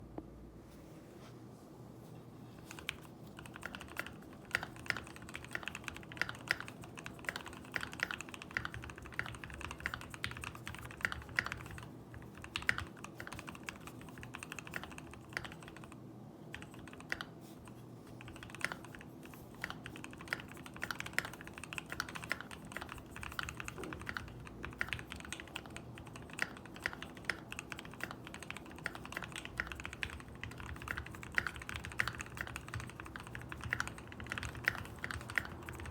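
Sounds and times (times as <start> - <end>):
mechanical keyboard typing: 2.7 - 35.9.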